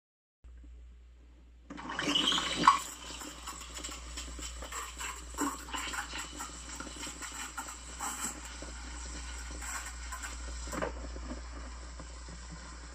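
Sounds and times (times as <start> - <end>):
steam wand steaming milk: 1.7 - 12.9.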